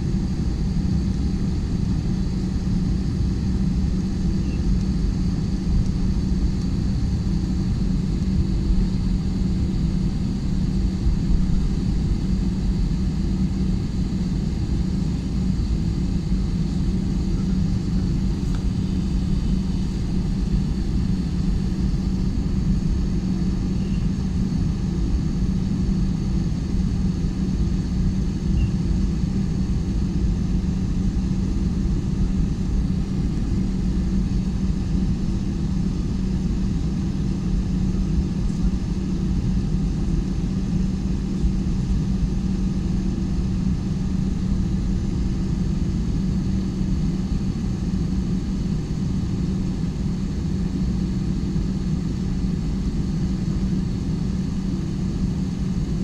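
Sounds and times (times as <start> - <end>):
airliner cabin rumble: 0.0 - 56.0
jet engine whine: 0.0 - 56.0.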